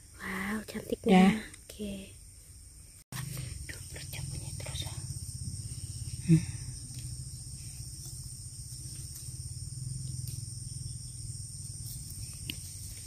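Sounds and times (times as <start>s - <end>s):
crickets and insects droning: 0.0s - 13.0s.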